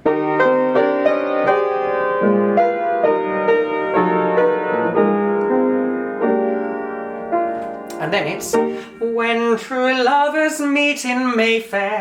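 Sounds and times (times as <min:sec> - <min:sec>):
piano chords: 0:00.0 - 0:11.5.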